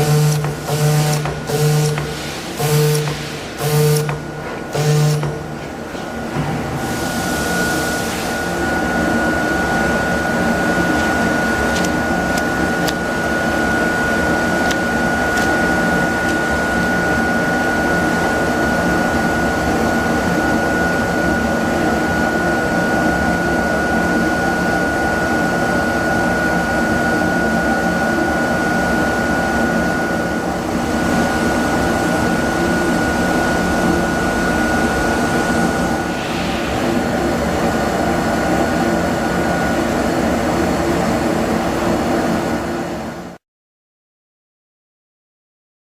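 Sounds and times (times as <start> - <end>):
cutting machine whine and hum: 0.0 - 43.4.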